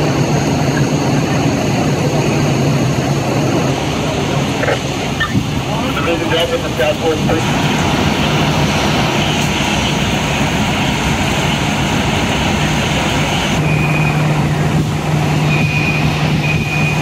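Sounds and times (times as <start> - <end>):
heavy engine droning: 0.0 - 17.0.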